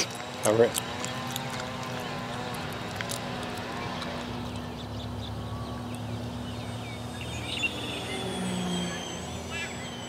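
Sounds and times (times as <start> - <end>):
model plane motors whining: 0.0 - 10.0.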